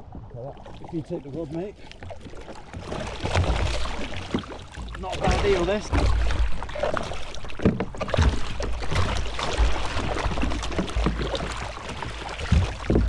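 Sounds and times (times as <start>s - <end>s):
water splashing against kayak: 0.0s - 13.0s.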